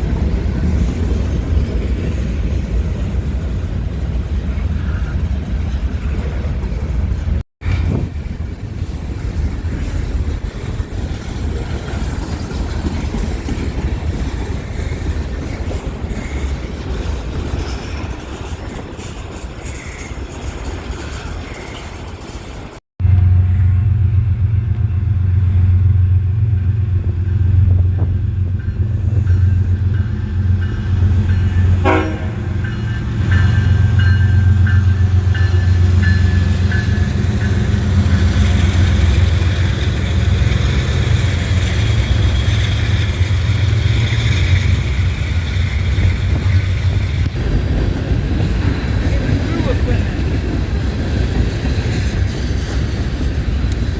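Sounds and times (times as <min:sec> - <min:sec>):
locomotive engines droning: 0:00.0 - 0:53.9
train wheels rushing on rails: 0:00.0 - 0:53.9.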